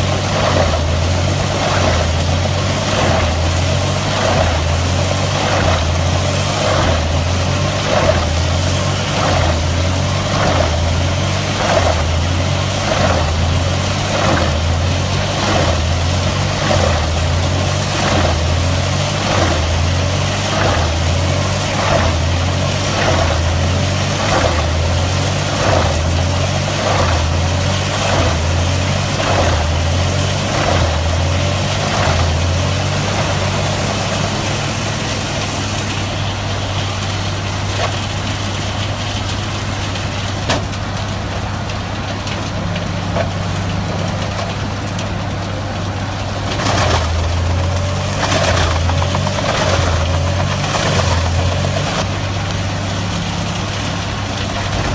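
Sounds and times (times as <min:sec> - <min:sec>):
heavy machine engine pulsing: 0:00.0 - 0:54.9
machine clatter: 0:00.0 - 0:54.9.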